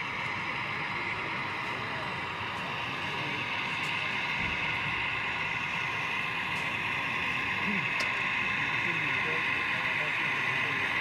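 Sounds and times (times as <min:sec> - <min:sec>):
crowd chatter: 0:00.0 - 0:11.0
model locomotive engine drone: 0:00.0 - 0:11.0.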